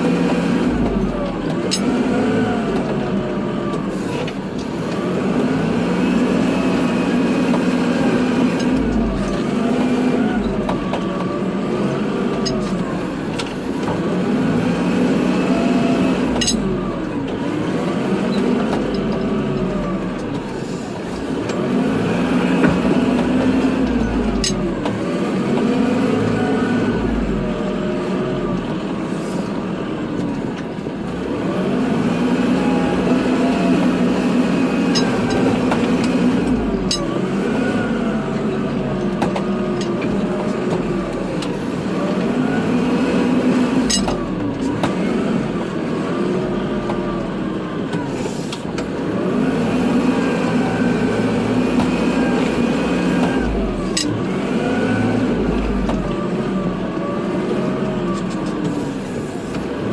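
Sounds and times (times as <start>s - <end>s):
tractor diesel engine working: 0.0s - 59.9s.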